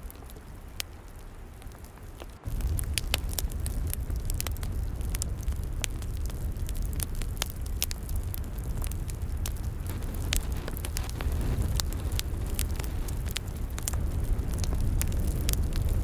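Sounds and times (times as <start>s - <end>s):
log fire crackling and popping: 0.0s - 16.0s
low rumble: 0.0s - 16.0s.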